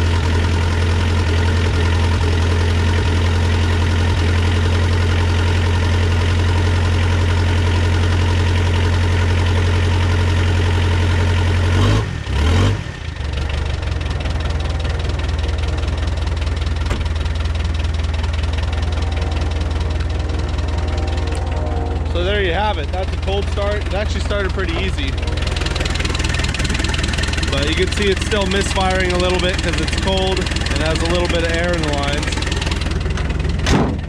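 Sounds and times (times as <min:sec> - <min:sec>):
diesel engine knocking and misfiring: 0:00.0 - 0:34.0.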